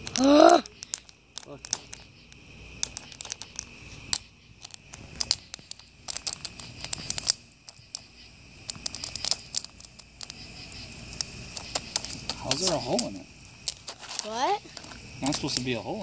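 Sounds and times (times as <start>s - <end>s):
popcorn popping in a pan: 0.0s - 2.1s, 2.7s - 14.4s, 15.2s - 15.9s
firewood crackling: 0.0s - 16.0s.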